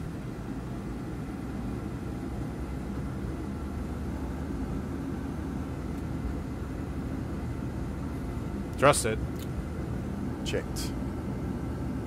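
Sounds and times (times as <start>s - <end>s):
faint steady whine: 0.0s - 12.0s
low rumble of jet engines: 0.0s - 12.0s.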